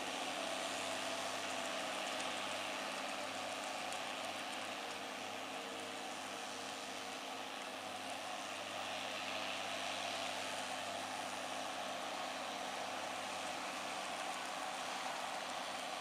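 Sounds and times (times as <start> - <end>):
steady hiss: 0.0 - 16.0
tractor diesel engine under load: 0.0 - 16.0.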